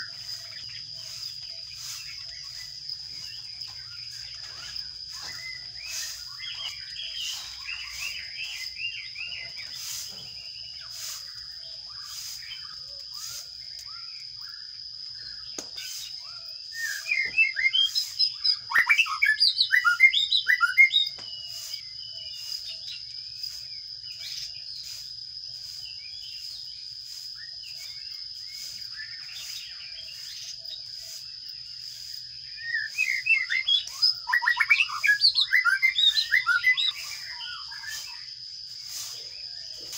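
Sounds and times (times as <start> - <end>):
chicks chirping: 0.0 - 14.4, 15.4 - 18.7, 19.6 - 38.1.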